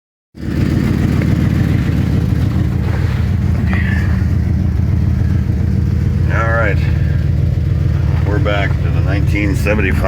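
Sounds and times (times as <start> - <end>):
car engine idling with deep rumble: 0.4 - 10.0.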